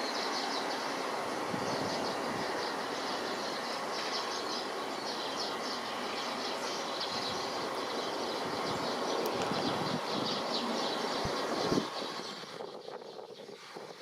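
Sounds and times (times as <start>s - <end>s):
distant jet engines rumbling: 0.0s - 14.0s.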